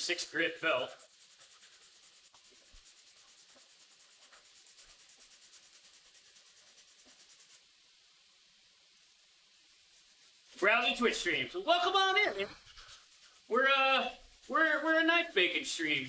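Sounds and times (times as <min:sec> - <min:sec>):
sanding a steel blade: 0:00.0 - 0:07.6, 0:09.6 - 0:16.0.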